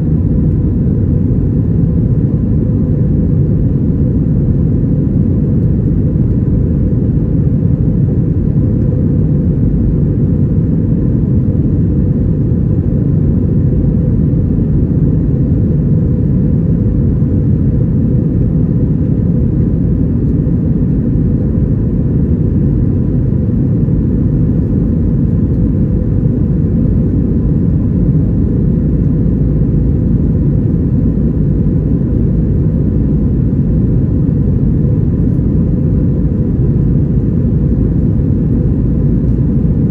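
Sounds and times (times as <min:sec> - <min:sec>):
faint steady whine: 0:00.0 - 0:39.9
low rumble of jet engines: 0:00.0 - 0:39.9.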